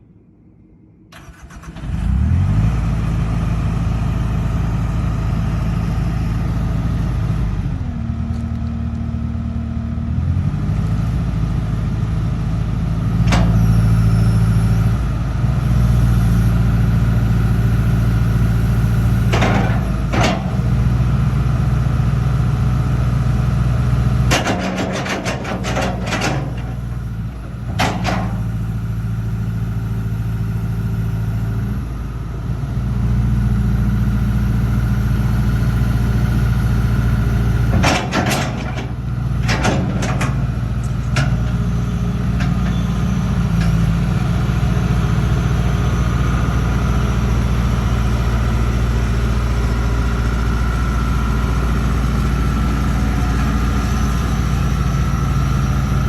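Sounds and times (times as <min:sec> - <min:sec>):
excavator diesel engine running: 0:01.1 - 0:56.0.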